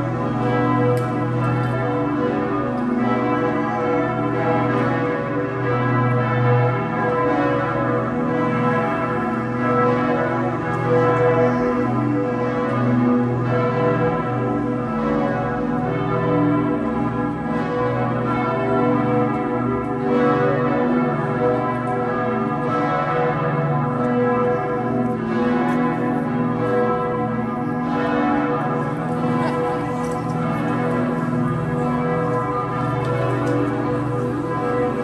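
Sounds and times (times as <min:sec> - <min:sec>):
church bells pealing: 0:00.0 - 0:35.0.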